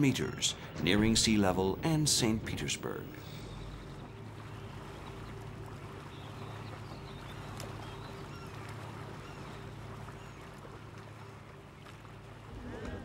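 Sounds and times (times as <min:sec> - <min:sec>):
ship engines humming: 0:00.0 - 0:13.0
water wash: 0:00.0 - 0:13.0.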